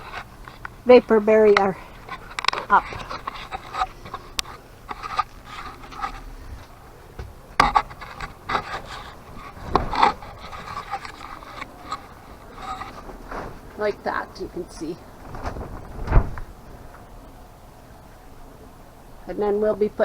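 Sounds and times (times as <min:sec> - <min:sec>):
plastic sheeting rustling: 0:00.0 - 0:19.4.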